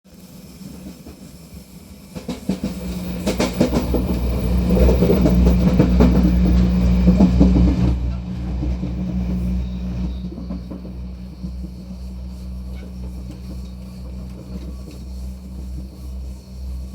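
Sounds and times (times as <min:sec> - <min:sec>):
clattering and knocking of train wheels: 0:00.1 - 0:16.9
train engine drone: 0:00.1 - 0:16.9.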